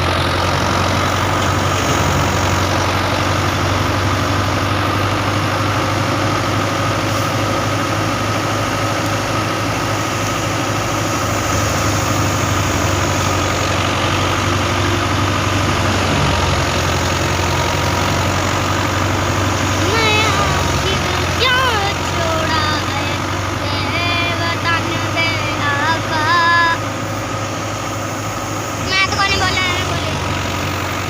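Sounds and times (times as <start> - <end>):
farm machine engine droning: 0.0 - 31.0.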